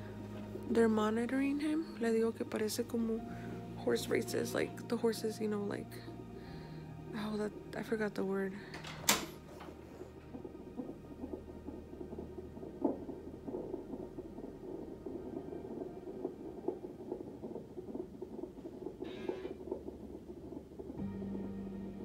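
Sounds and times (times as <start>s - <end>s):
doppler fetal heartbeat: 0.0s - 22.0s.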